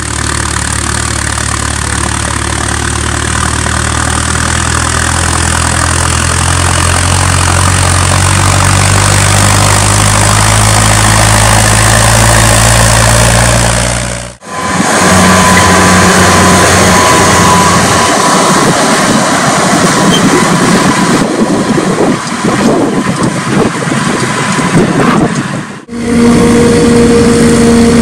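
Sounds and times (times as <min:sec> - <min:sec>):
diesel tractor engine under load: 0:00.0 - 0:28.0.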